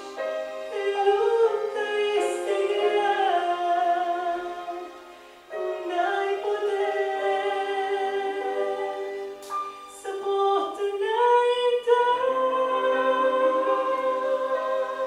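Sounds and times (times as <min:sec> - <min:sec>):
soft sustained backing chords: 0:00.0 - 0:15.0
woman singing into a microphone: 0:00.7 - 0:05.0, 0:05.8 - 0:09.2, 0:09.9 - 0:15.0.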